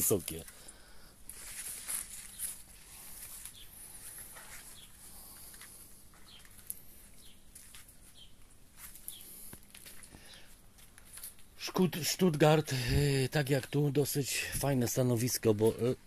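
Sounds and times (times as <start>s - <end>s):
small birds chirping: 1.9s - 16.0s.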